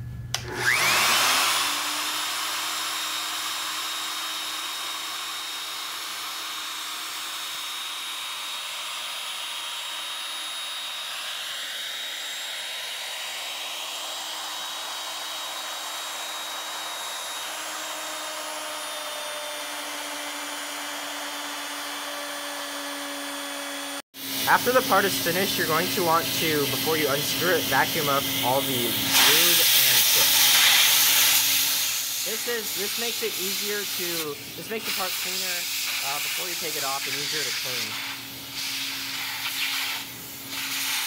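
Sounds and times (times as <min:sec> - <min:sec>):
router spindle cutting metal: 0:00.4 - 0:41.0.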